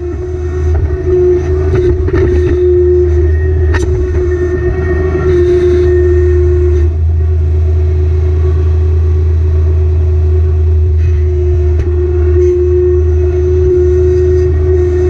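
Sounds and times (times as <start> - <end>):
steady engine whine: 0.0 - 15.0
tractor diesel engine humming: 0.0 - 15.0.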